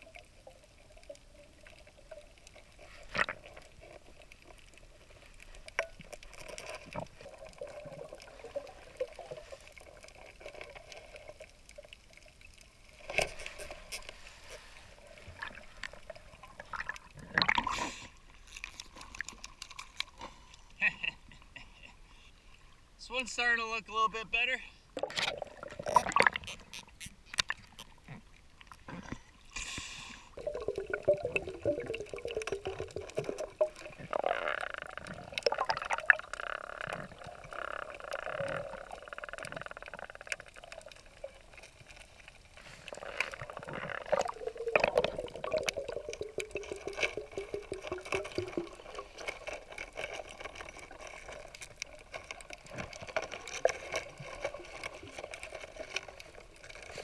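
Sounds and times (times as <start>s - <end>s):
water swishing underwater: 0.0s - 57.0s.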